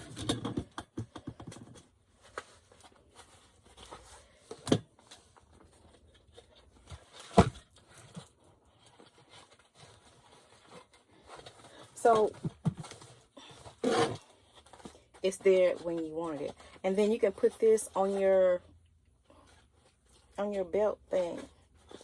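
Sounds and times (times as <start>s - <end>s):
clicks and rustles of bag: 0.0s - 18.2s.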